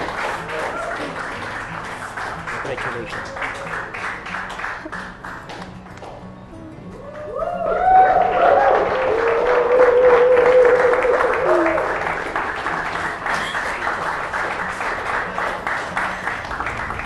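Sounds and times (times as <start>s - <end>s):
audience applauding: 0.0s - 6.3s, 6.9s - 17.0s.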